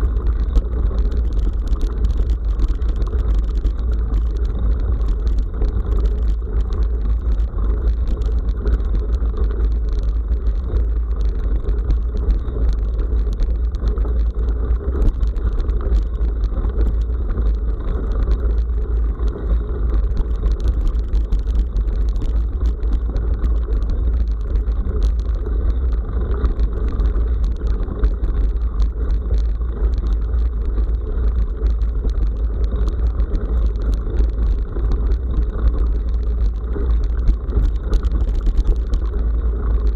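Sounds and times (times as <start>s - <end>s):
bicycle tyres clicking and rattling: 0.0s - 39.9s
wind rumble on microphone: 0.0s - 39.9s.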